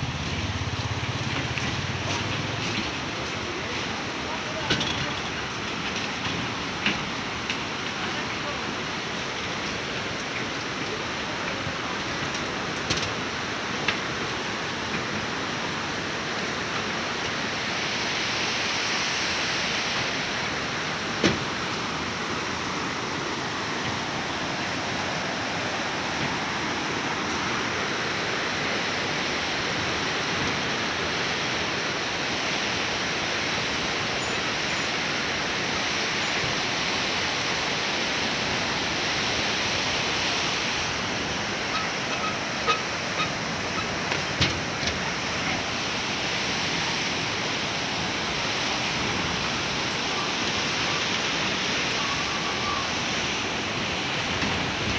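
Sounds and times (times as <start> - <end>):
river rushing over boulders: 0.0 - 54.9.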